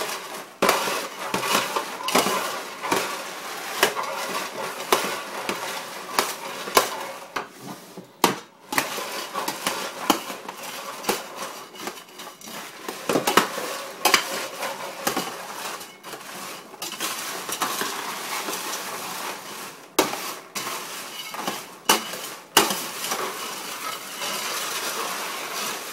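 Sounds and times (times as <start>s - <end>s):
popcorn rustling: 0.0s - 25.9s
metal scoops clinking on steel tray: 0.1s - 7.1s, 8.7s - 18.8s, 20.0s - 25.9s.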